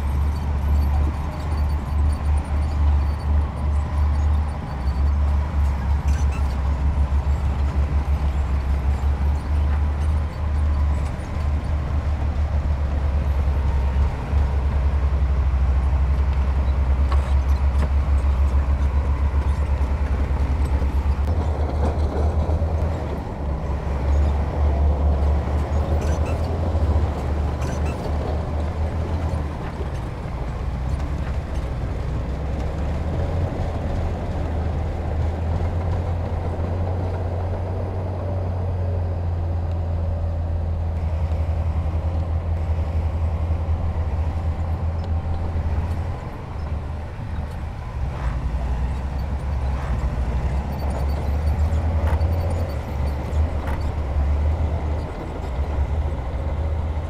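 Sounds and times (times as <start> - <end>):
diesel engine low rumble: 0.0 - 57.0.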